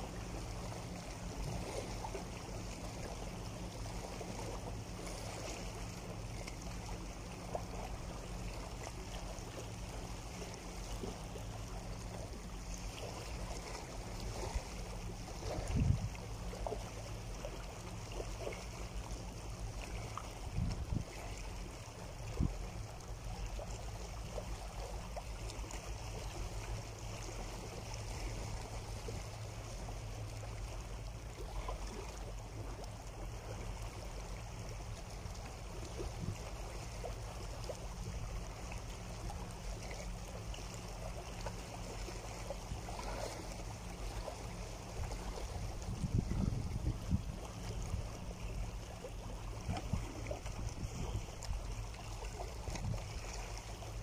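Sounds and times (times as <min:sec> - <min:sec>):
water splashes: 0:00.0 - 0:54.0
waves lapping on rocks: 0:00.0 - 0:54.0.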